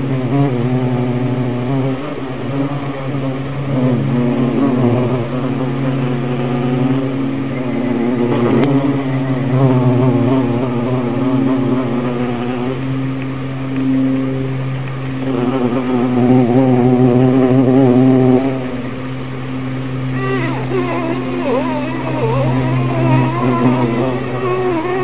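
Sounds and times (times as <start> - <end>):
bee buzzing: 0.0 - 25.0.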